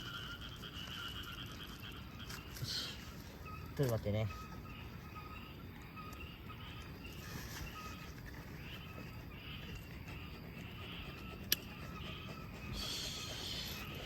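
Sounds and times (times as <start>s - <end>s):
bird chirping: 0.0s - 14.0s
outdoor background noise: 0.0s - 14.0s.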